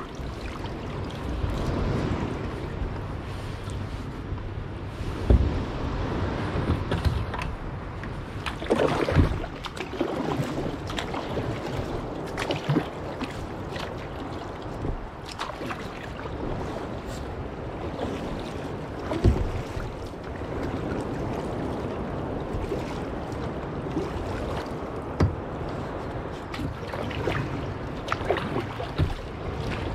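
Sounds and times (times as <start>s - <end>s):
water lapping against kayak hull: 0.0s - 29.9s
wind buffeting microphone: 0.0s - 29.9s.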